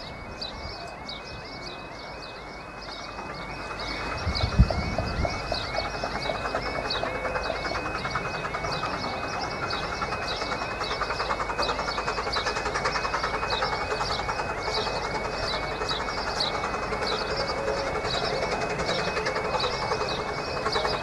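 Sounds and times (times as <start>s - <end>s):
steam locomotive running: 0.0s - 21.0s.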